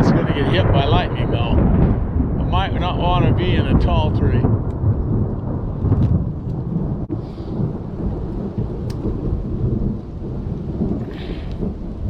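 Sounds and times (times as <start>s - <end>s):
rain falling: 0.0s - 12.0s
thunder rumbling: 0.0s - 12.0s.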